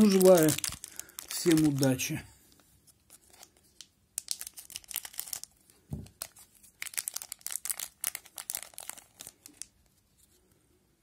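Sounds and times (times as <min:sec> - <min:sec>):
wrapper crinkling: 0:00.0 - 0:02.1, 0:03.0 - 0:09.8.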